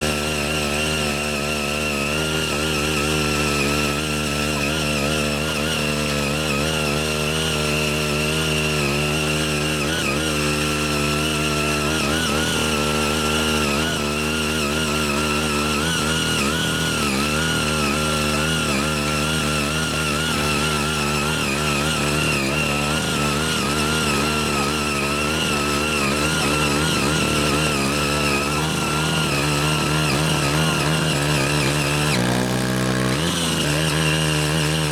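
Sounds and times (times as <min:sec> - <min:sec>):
tiller blades digging soil: 0:00.0 - 0:34.9
tiller engine running: 0:00.0 - 0:34.9.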